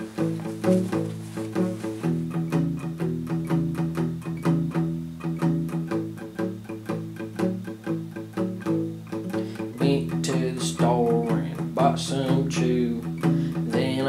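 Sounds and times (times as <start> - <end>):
plucked guitar notes: 0.0 - 14.0.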